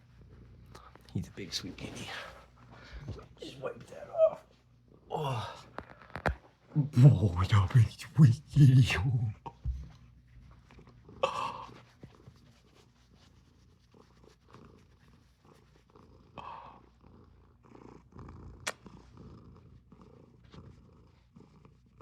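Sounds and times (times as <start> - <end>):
cat purring: 0.0 - 6.3, 8.8 - 22.0.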